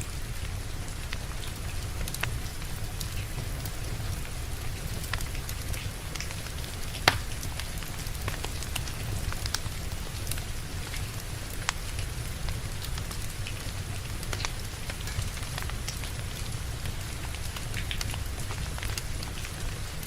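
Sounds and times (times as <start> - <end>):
steady rain: 0.0 - 20.0
wood fire crackling: 0.0 - 20.0.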